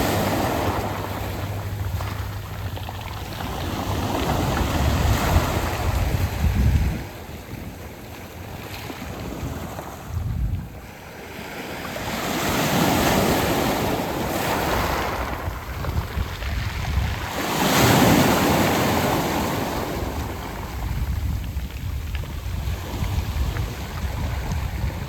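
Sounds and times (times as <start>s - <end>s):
waves washing over pebble beach: 0.0s - 10.1s, 10.8s - 25.0s
wind rumble on microphone: 0.0s - 25.0s.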